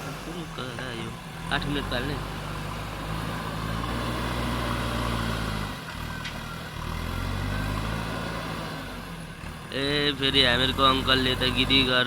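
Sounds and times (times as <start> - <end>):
diesel engine working under load: 0.0 - 12.0.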